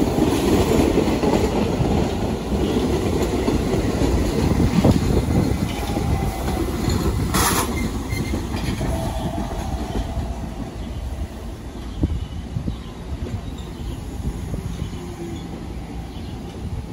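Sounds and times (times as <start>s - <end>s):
subway train passing on rails: 0.0s - 16.9s.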